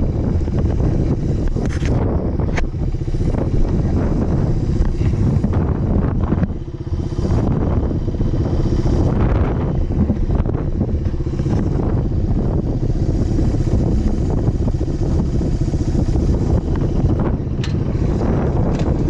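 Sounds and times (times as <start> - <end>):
dirt bike engine running: 0.0 - 19.0
wind noise on microphone: 0.0 - 19.0.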